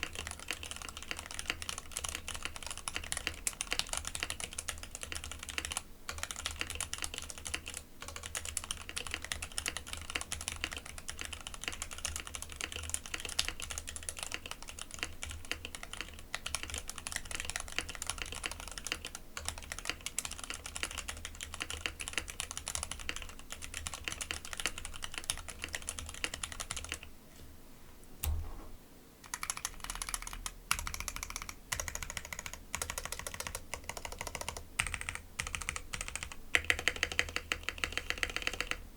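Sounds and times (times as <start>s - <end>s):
mechanical keyboard typing: 0.0s - 27.1s, 29.2s - 38.8s.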